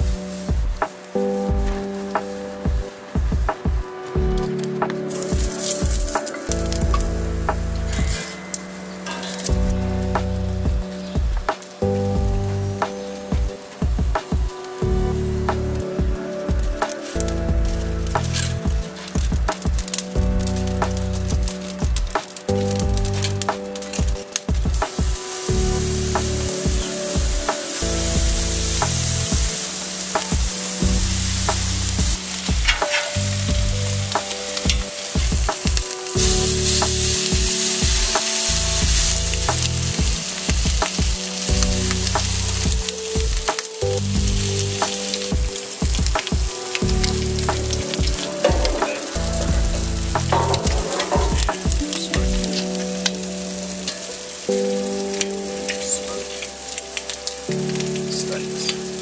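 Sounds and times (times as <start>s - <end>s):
background music: 0.0s - 59.0s
food sizzling on a grill: 0.0s - 59.0s.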